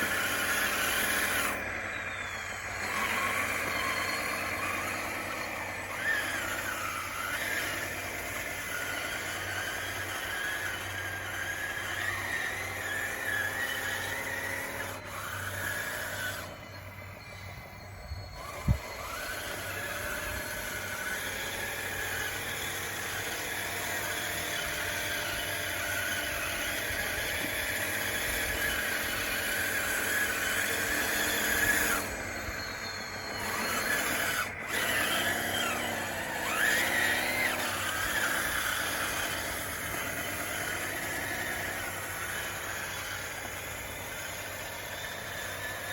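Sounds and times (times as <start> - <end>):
electric motors and gearboxes whining: 0.0 - 45.9.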